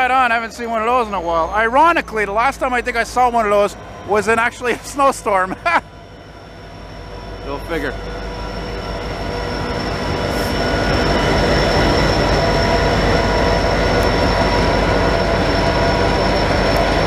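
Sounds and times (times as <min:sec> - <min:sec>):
diesel locomotive engines: 0:00.0 - 0:17.0
high-pitched ringing tones: 0:00.0 - 0:17.0
train wheels rolling on rails: 0:00.0 - 0:17.0.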